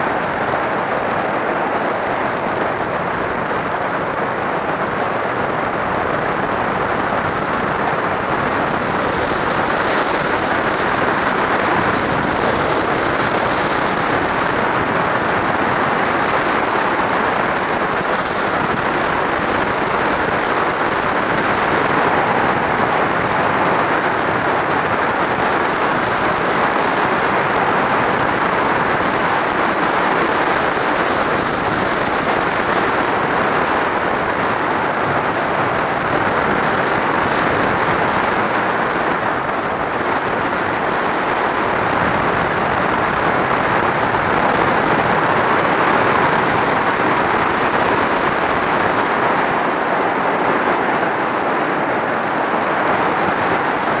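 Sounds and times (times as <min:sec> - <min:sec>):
road and tyre noise: 0:00.0 - 0:54.0
wind rushing over microphone: 0:00.0 - 0:54.0.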